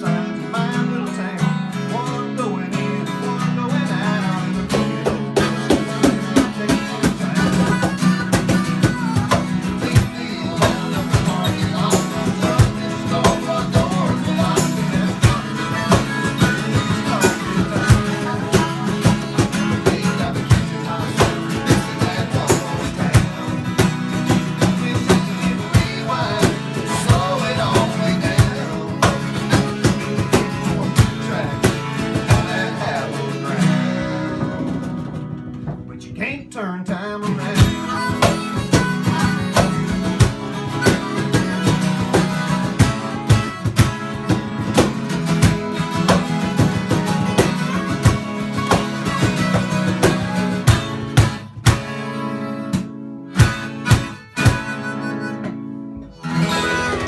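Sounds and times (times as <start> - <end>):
acoustic guitar: 0.0 - 57.0
country band playing: 0.0 - 57.0.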